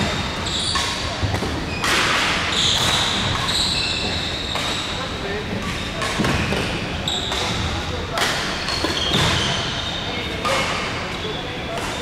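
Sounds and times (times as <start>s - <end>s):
echoing hall background noise: 0.0s - 12.0s
shoes squeaking on hall floor: 0.0s - 12.0s.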